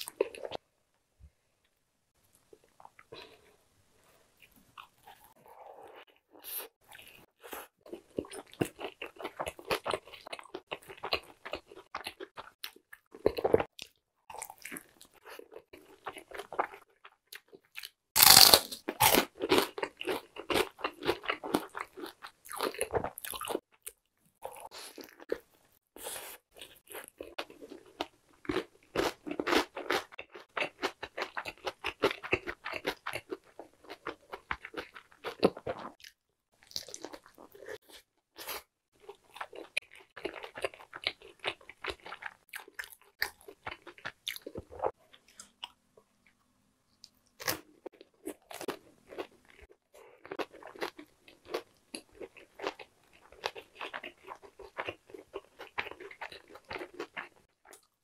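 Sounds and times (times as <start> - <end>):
crunching of fried chicken burger: 7.2 - 23.9, 24.5 - 45.7, 47.4 - 58.0.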